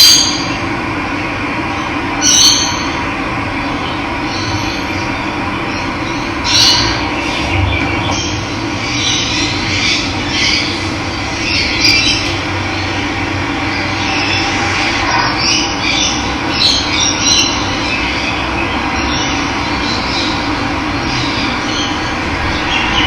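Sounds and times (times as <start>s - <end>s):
birds chirping: 1.7s - 23.0s.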